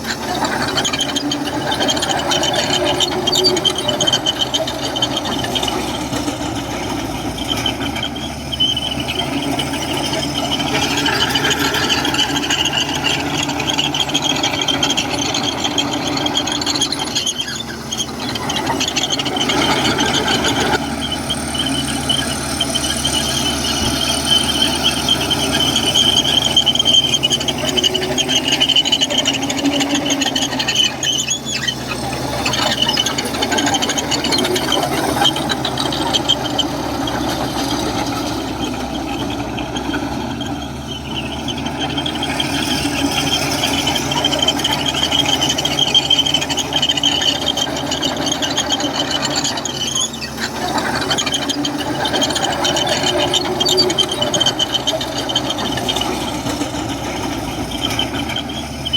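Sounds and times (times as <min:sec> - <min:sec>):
bulldozer diesel engine: 0:00.0 - 0:58.9
steel tracks squealing: 0:00.0 - 0:58.9.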